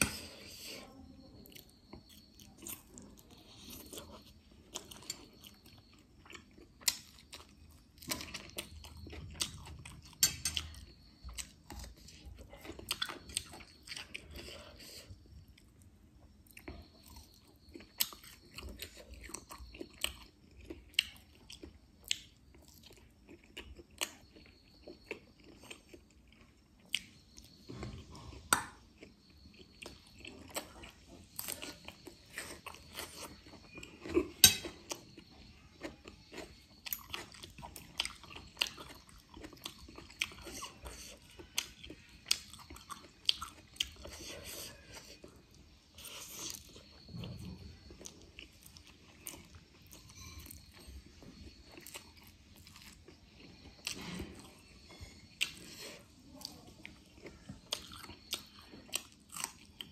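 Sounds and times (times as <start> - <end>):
person chewing and crunching: 1.4 - 59.9.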